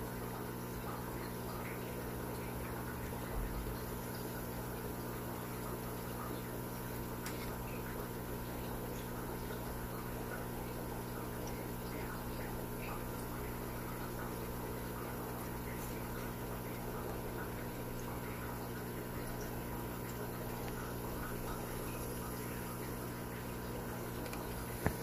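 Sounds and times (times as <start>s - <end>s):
aquarium equipment humming: 0.0s - 25.0s
water bubbling: 0.2s - 25.0s.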